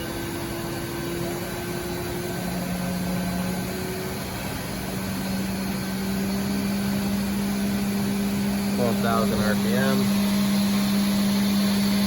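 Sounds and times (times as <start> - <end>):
machine spindle humming: 0.0 - 12.0.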